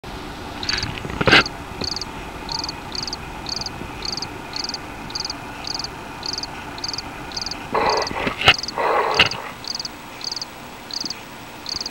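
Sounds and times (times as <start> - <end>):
background hiss: 0.1 - 11.9
cricket chirping: 0.6 - 11.9.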